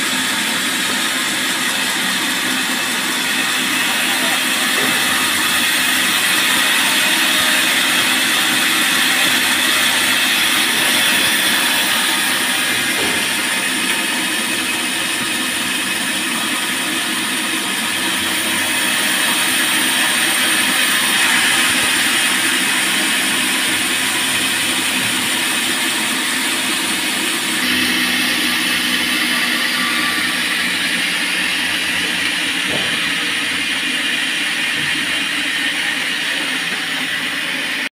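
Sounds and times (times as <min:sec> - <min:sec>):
band sawmill running: 0:00.0 - 0:37.9.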